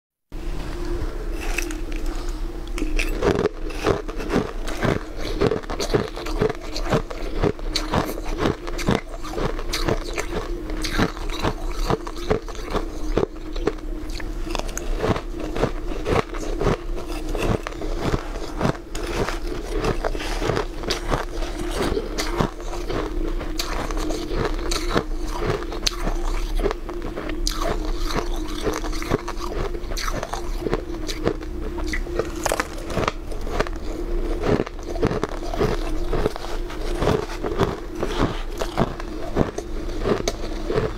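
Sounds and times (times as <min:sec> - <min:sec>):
steady hum: 0:00.3 - 0:40.9
chewing crushed ice: 0:00.8 - 0:40.9.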